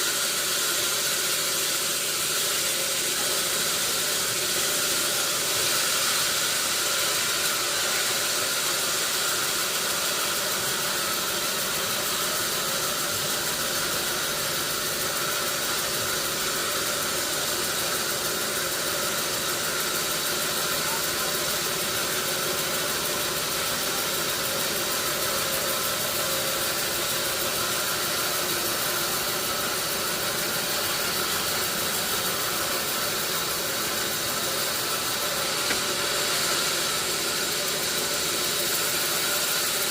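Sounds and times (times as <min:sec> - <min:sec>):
machine hiss: 0:00.0 - 0:39.9.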